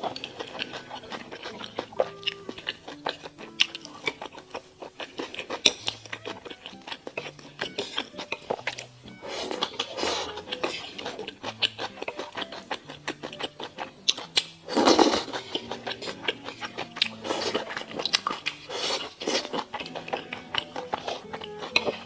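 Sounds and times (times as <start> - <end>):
soft background music: 0.0 - 22.0
wet chewing and mouth smacks: 0.0 - 22.0.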